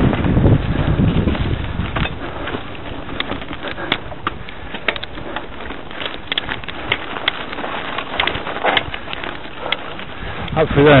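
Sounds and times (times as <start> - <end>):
bike tyres rumbling on gravel: 0.0 - 11.0
stones and bike clicking: 0.0 - 11.0.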